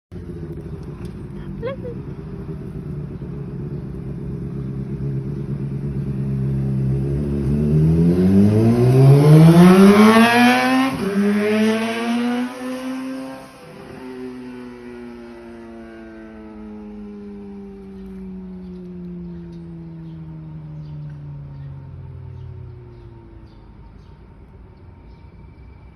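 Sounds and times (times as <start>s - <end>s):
motorcycle engine revving: 0.1s - 25.9s.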